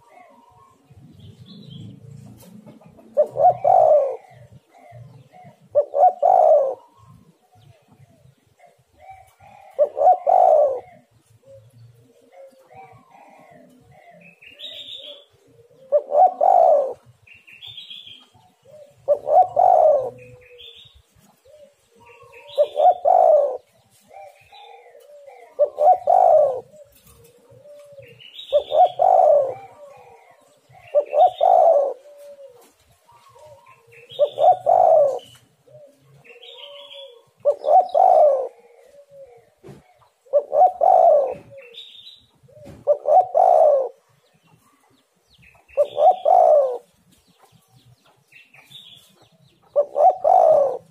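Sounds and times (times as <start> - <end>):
dove cooing: 0.0 - 47.7, 48.6 - 50.9.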